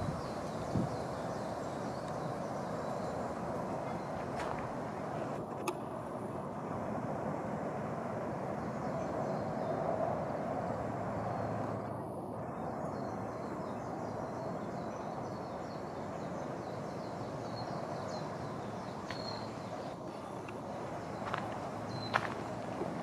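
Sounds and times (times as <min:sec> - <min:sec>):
low outdoor rush: 0:00.0 - 0:23.0.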